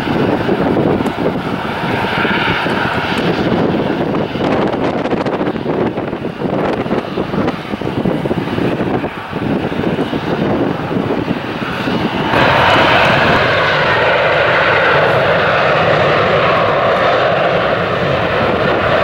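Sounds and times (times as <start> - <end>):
jet engines running: 0.0 - 19.0
wind buffeting microphone: 0.0 - 19.0.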